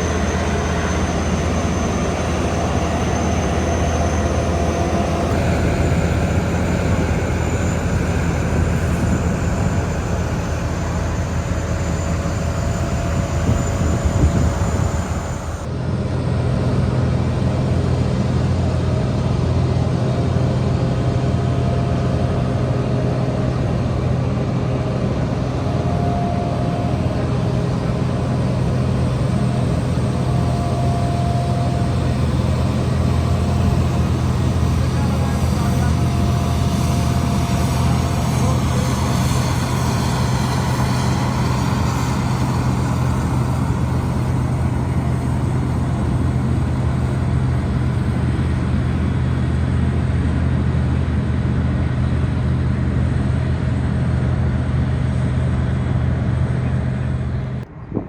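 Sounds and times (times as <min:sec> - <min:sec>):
jet engines with high whine: 0:00.0 - 0:58.0.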